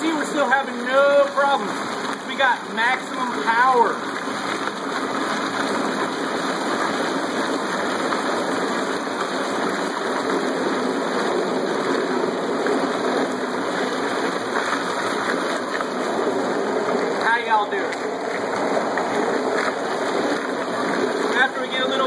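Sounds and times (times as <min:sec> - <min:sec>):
slush churning and gushing: 0:00.0 - 0:22.0.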